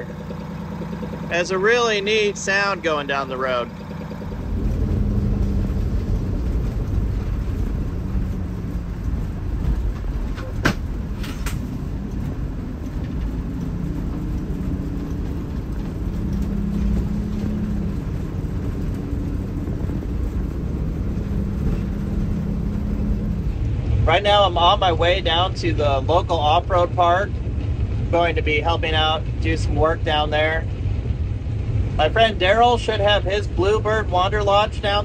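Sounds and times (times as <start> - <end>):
diesel engine rumble: 0.0 - 35.0
road noise: 0.0 - 35.0.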